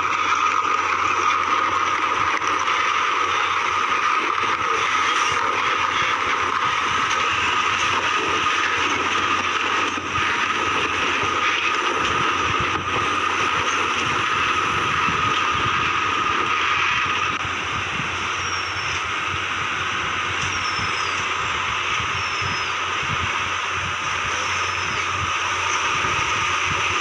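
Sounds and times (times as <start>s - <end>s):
steady high-pitched tone: 0.0s - 27.0s.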